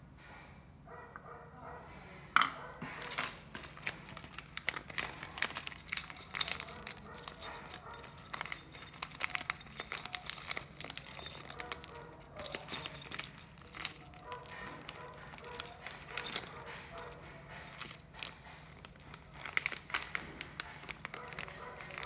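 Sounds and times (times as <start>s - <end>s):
plastic bag crinkling: 2.9s - 22.0s.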